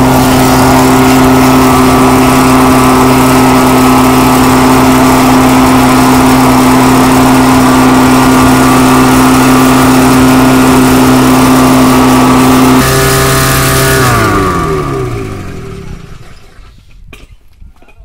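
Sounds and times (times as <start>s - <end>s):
engine running with pulsing hum: 0.0s - 16.6s.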